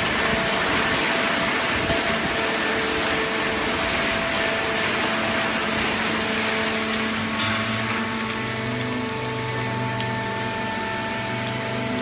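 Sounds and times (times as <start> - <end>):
baling press motors humming: 0.0 - 12.0.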